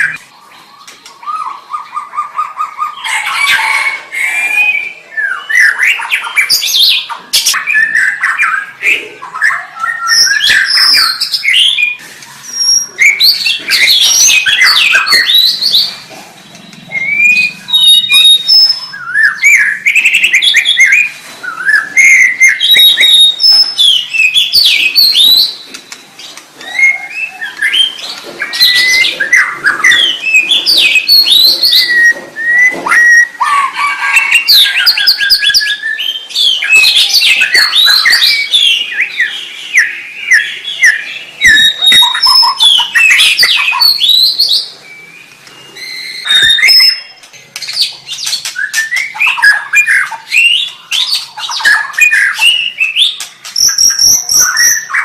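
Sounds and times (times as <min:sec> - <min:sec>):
songbird singing whistles and trills: 0:04.5 - 0:16.0, 0:16.6 - 0:55.0.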